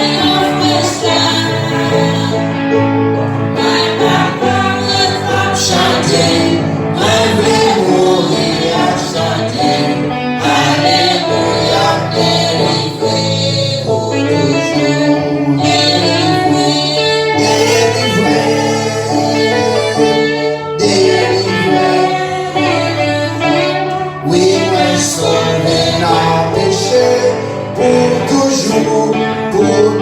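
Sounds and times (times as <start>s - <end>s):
gospel singing with band: 0.0s - 30.0s.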